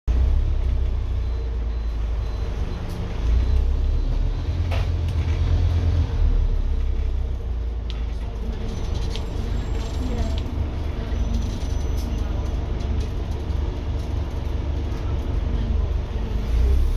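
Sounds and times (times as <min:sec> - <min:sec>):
diesel bus engine drone: 0:00.1 - 0:16.9.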